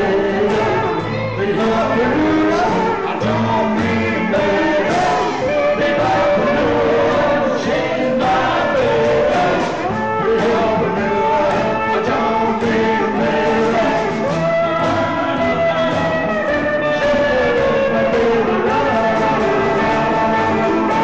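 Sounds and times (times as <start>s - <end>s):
men singing together: 0.0s - 21.0s
rockabilly band playing: 0.0s - 21.0s.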